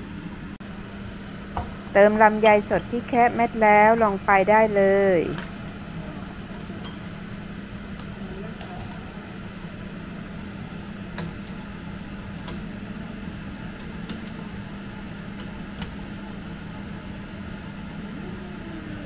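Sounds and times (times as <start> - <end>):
kitchen appliance hum: 0.0 - 19.0.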